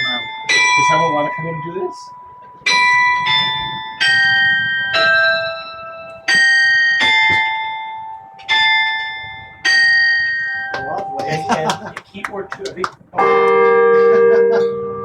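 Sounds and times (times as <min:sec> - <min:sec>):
carillon bells playing a tune: 0:00.0 - 0:12.6.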